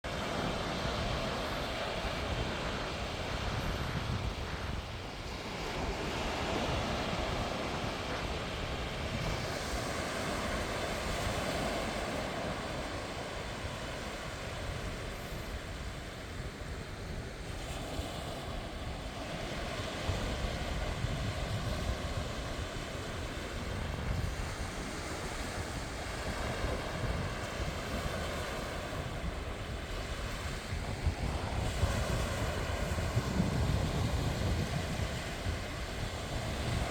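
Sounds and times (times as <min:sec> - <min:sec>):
sea waves washing onto beach: 0:00.0 - 0:36.9
wind rumbling on microphone: 0:00.0 - 0:36.9.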